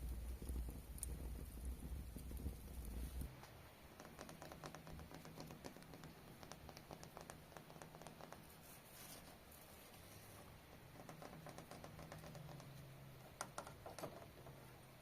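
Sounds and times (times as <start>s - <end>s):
light clicks and taps: 0.3s - 8.6s, 10.7s - 14.6s.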